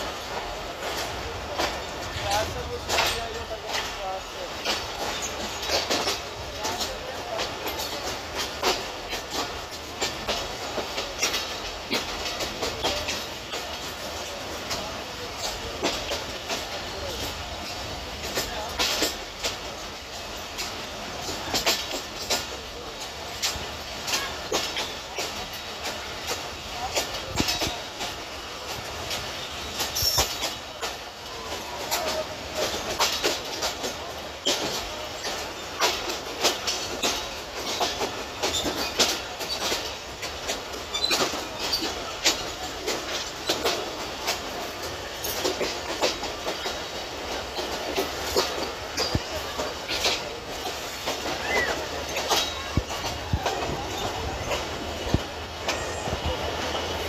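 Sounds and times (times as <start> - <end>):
train running rumble: 0.0 - 57.0
train wheels clacking over rail joints: 0.0 - 57.0.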